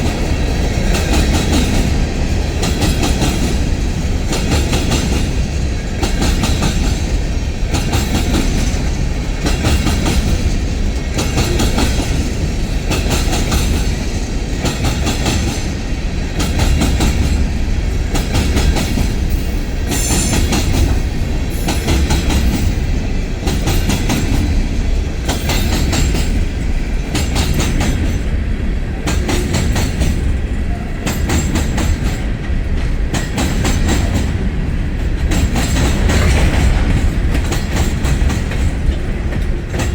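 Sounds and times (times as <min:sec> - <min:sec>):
heavy train rumble: 0:00.0 - 0:39.9
train wheels clicking over rail joints: 0:00.0 - 0:39.9.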